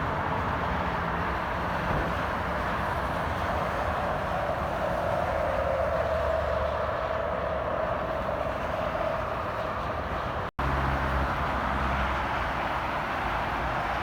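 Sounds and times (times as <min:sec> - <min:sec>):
highway traffic: 0:00.0 - 0:14.0.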